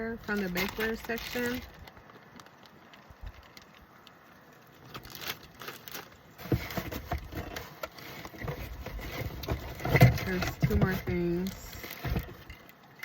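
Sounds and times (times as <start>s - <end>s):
packaging rustling: 0.2s - 12.8s.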